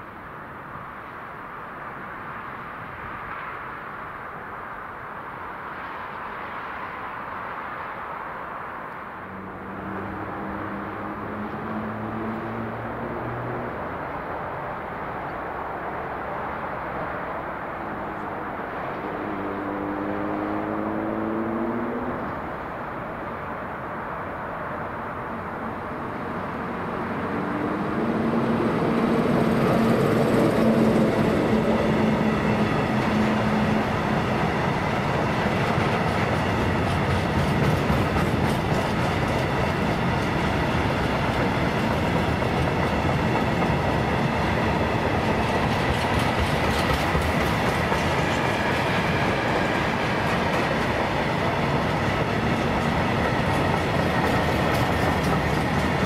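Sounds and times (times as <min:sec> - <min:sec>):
train wheels rolling on rails: 0:08.9 - 0:24.0, 0:25.4 - 0:56.0.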